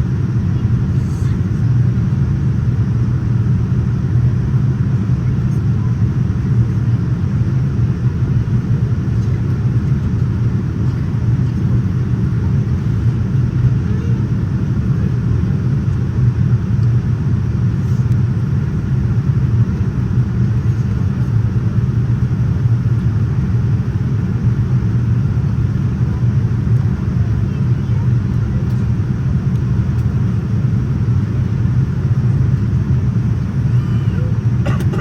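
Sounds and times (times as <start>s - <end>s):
airliner cabin rumble: 0.0s - 35.0s.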